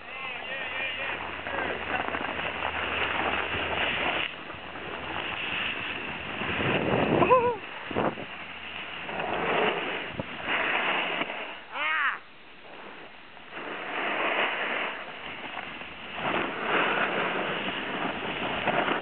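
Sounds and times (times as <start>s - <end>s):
snowboards scraping on snow: 0.0s - 11.9s, 12.6s - 19.0s
wind on microphone: 0.0s - 19.0s.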